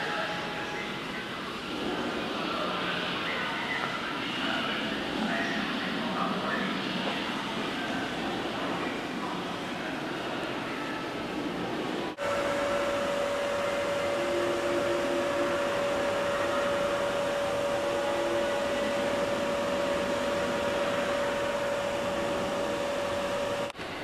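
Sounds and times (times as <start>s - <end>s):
mechanical whirring with whine: 0.0s - 24.0s.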